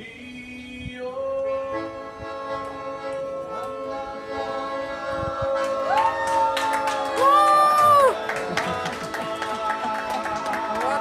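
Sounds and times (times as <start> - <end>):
man singing long notes: 0.0 - 11.0.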